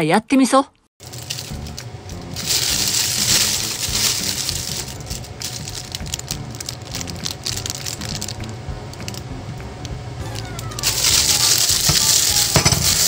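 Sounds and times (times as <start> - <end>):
loud hissing noise: 1.0 - 13.0.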